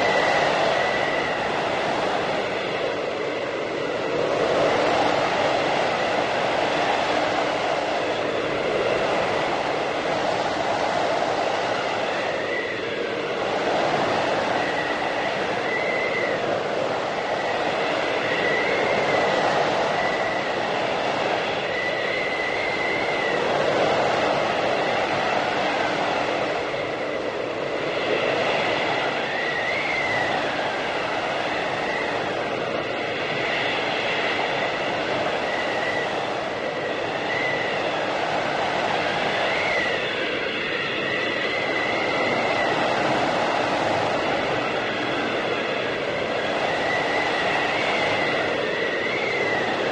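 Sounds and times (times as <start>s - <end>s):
faint high wind whistle: 0.0s - 49.9s
strong blizzard wind: 0.0s - 49.9s.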